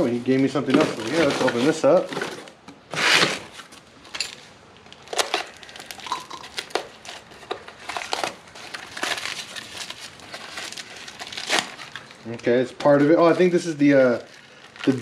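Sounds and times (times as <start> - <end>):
paper and cardboard rustling: 0.6 - 3.8, 5.0 - 15.0.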